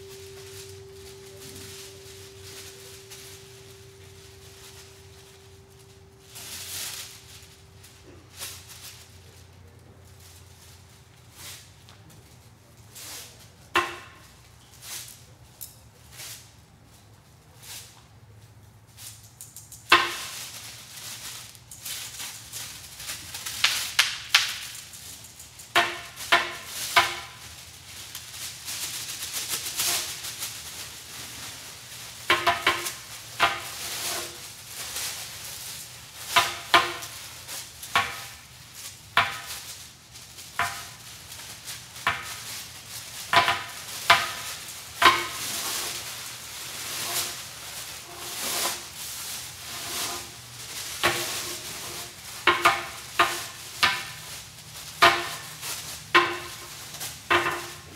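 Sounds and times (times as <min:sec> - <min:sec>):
stiff paper rustling: 0:00.0 - 0:15.4, 0:19.9 - 0:57.9.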